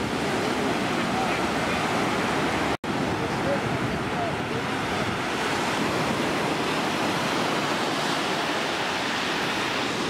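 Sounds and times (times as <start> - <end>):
waves breaking on sandy beach: 0.0 - 10.0.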